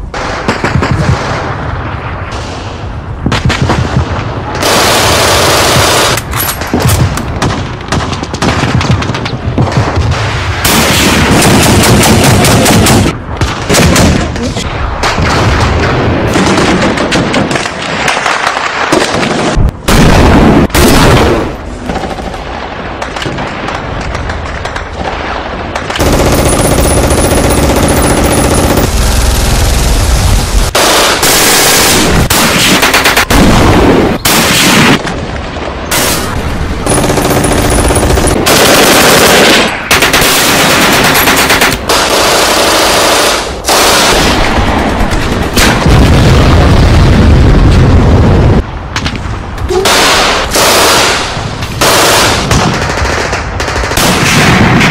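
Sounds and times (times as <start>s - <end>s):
machine-gun fire in bursts: 0.0s - 1.8s, 3.2s - 14.4s, 15.0s - 47.4s, 49.8s - 54.9s.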